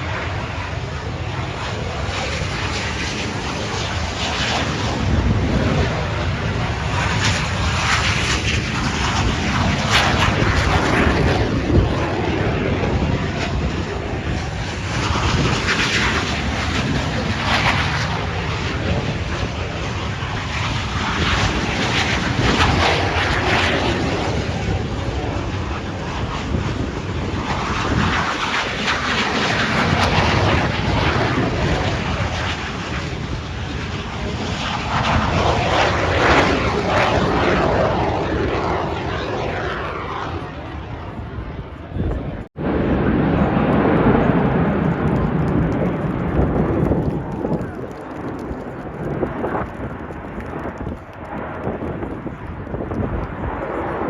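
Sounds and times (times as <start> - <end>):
aircraft engine noise: 0.0 - 54.0.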